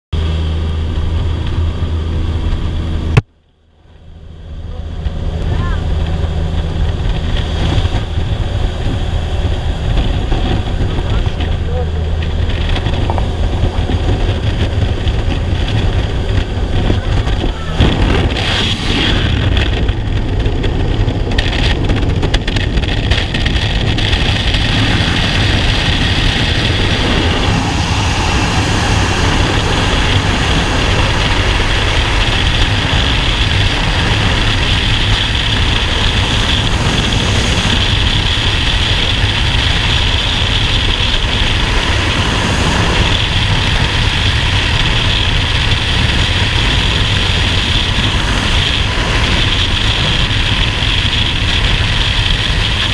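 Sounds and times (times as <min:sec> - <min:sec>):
wind rushing over microphone: 0:04.2 - 0:52.9.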